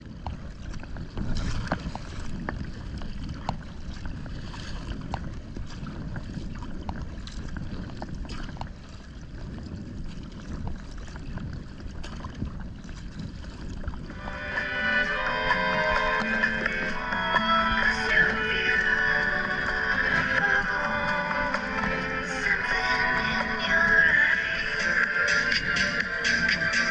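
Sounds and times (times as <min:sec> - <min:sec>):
water lapping against kayak: 0:00.0 - 0:26.9
wind rumbling on microphone: 0:00.0 - 0:26.9.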